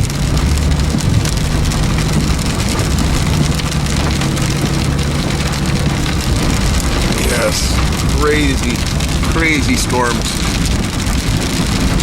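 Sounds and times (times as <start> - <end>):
car engine and tyres hum: 0.0 - 12.0
heavy rain on car roof: 0.0 - 12.0.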